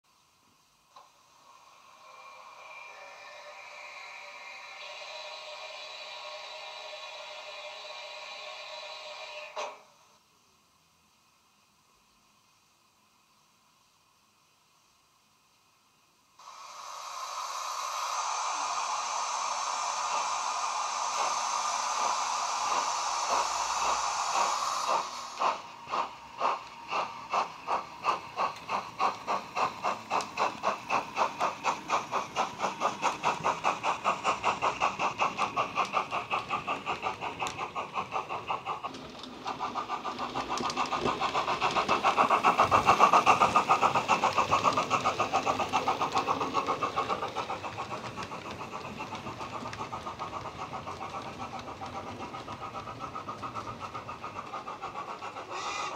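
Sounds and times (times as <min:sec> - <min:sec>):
steam hiss: 0:00.1 - 0:55.9
steam locomotive chuffing: 0:00.9 - 0:10.2, 0:16.4 - 0:55.9.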